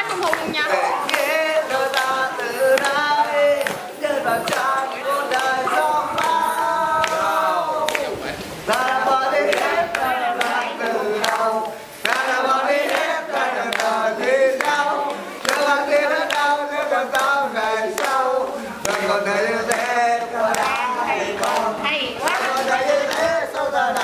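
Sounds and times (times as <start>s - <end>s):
hands clapping: 0.0s - 24.0s
people singing together: 0.0s - 24.0s.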